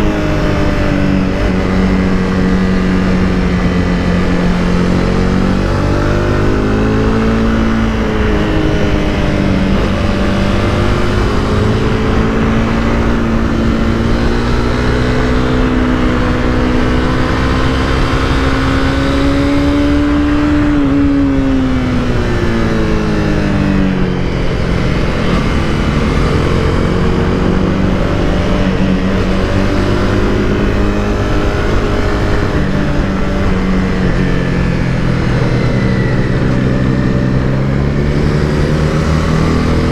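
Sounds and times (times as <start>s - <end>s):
motorcycle engine: 0.0s - 39.9s
wind noise: 0.0s - 39.9s.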